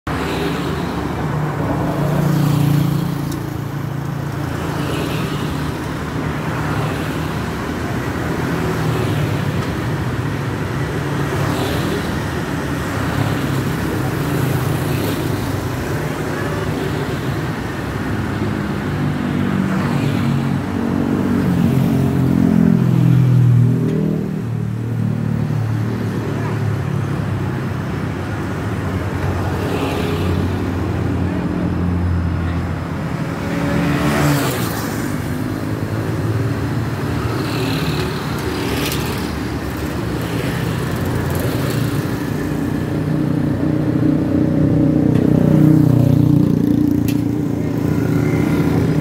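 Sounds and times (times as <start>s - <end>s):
cars passing: 0.1s - 49.0s
motorbikes passing: 0.1s - 49.0s.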